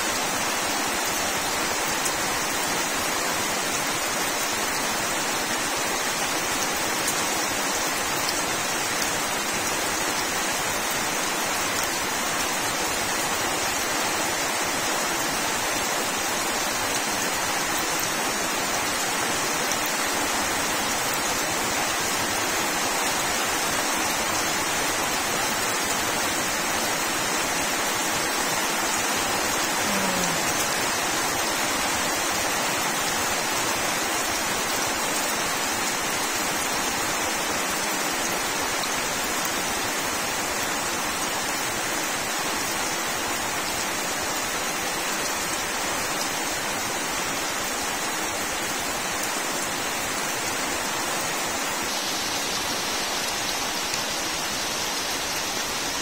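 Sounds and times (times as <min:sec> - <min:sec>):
rain on leaves and puddles: 0:00.0 - 0:56.0.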